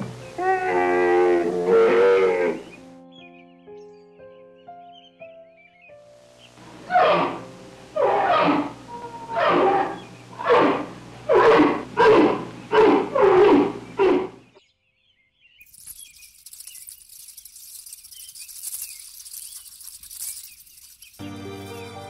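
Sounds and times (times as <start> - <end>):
faint high hiss with chirps: 0.0 - 11.9, 15.4 - 22.0.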